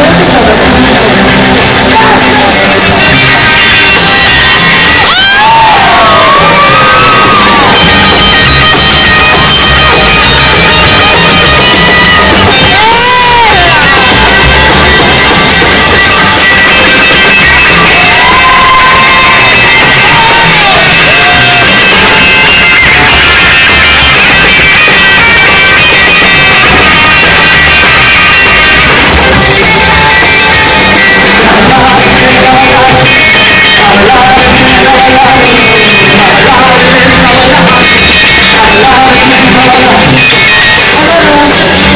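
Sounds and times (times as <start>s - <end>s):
drums: 0.0s - 41.9s
electric guitar bending notes: 0.0s - 41.9s.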